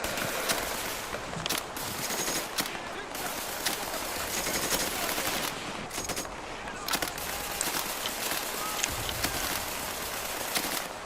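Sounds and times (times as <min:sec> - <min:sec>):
gunshots: 0:00.0 - 0:11.0
machine-gun bursts: 0:00.0 - 0:11.0.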